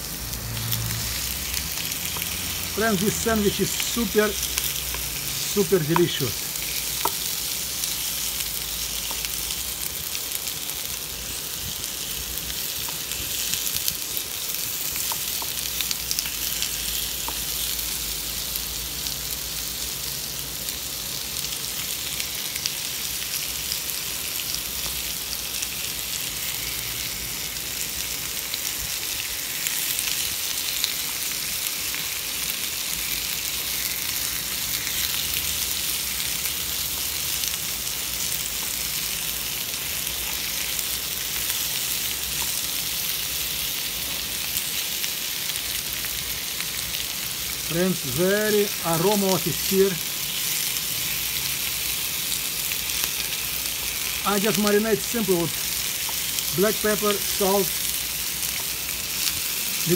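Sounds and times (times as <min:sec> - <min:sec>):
chicken frying in oil: 0:00.0 - 0:59.9.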